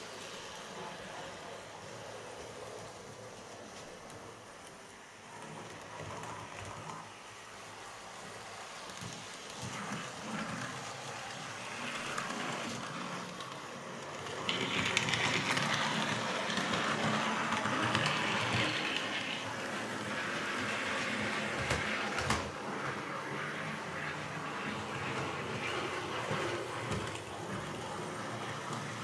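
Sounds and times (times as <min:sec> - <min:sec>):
model train motor whirring: 0:05.6 - 0:29.0.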